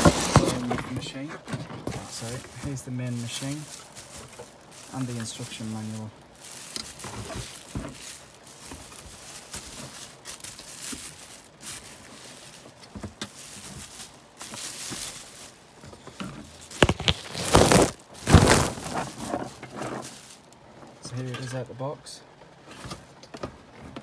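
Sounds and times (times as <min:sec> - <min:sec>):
packaging rustling and knocking: 0:00.0 - 0:20.6.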